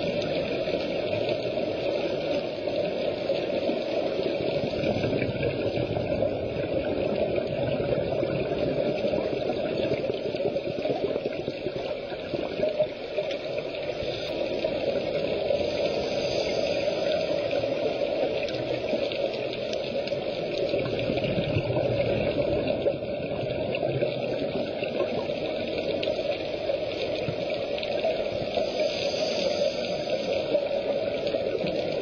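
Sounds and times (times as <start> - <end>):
bubbling of exhaled air: 0.0 - 32.0
muffled underwater rushing: 0.0 - 32.0.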